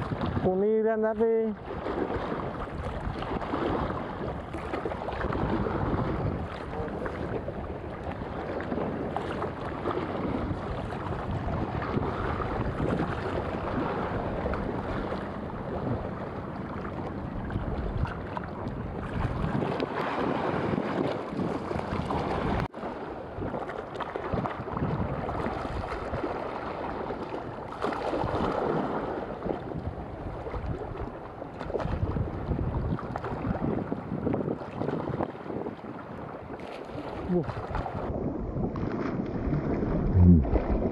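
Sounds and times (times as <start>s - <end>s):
choppy sea water: 0.0s - 40.9s
wind buffeting microphone: 0.0s - 40.9s.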